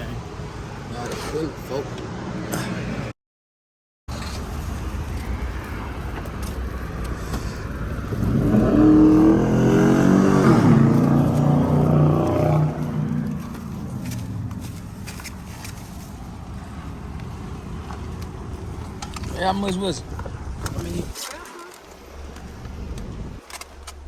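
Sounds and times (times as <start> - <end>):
road rumble: 0.0 - 3.2, 4.1 - 24.0
car engine: 4.1 - 24.0.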